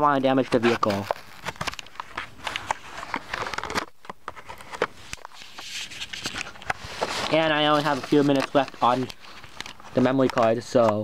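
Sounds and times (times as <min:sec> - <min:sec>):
packaging clicks scrapes and crinkling: 0:00.3 - 0:11.0.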